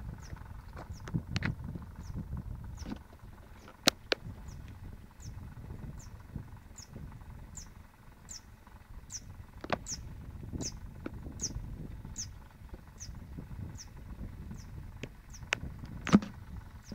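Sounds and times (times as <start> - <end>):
low rumble: 0.0 - 16.9
small bird calling: 0.0 - 16.9.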